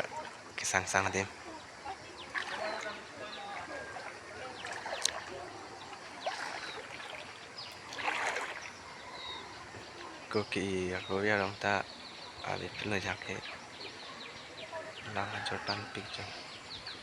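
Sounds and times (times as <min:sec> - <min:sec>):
floodwater splashing and sloshing: 0:00.0 - 0:17.0.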